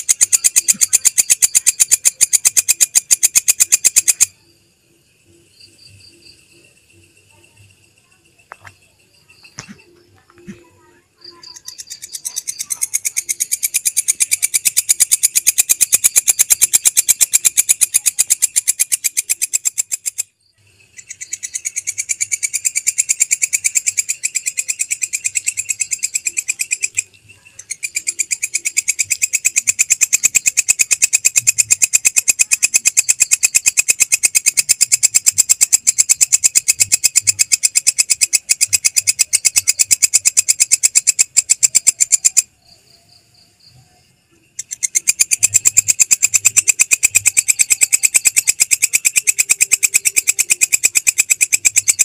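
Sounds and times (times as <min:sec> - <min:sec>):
katydid calling: 0:00.0 - 0:04.5, 0:07.8 - 0:43.9, 0:44.5 - 0:52.0.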